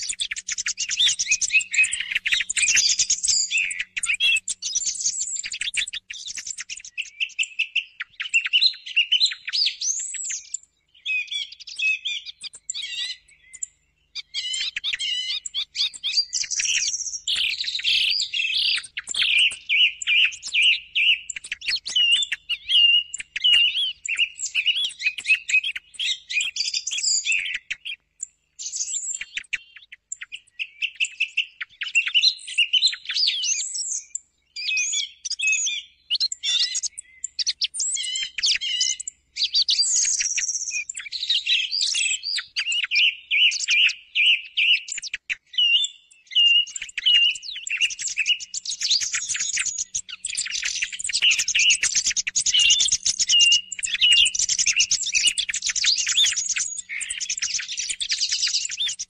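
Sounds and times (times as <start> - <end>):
song thrush singing: 0.0 - 59.0.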